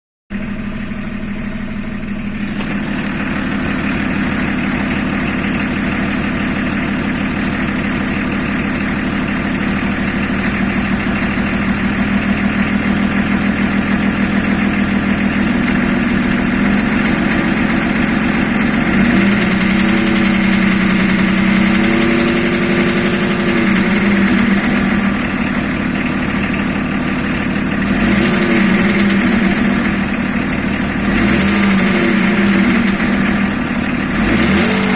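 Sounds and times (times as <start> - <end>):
car engine idling with knock: 0.3 - 34.9.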